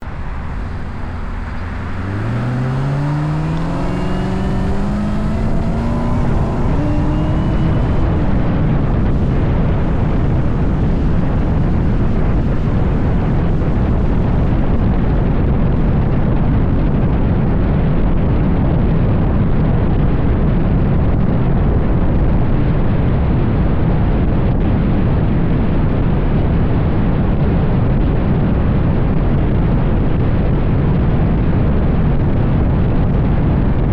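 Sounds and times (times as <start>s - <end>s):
car engine accelerating hard: 0.0s - 23.6s, 29.4s - 33.9s
tyre and wind noise: 0.0s - 33.9s.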